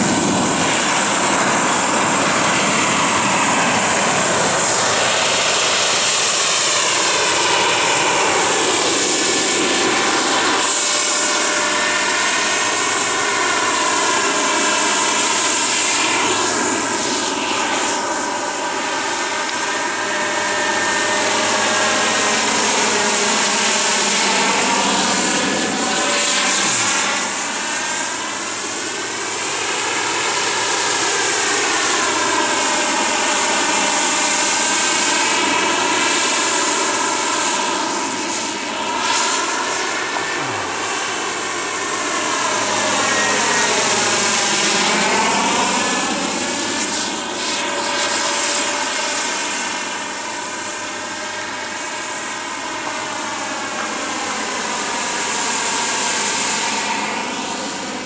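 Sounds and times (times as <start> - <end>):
helicopter flying: 0.0 - 58.0.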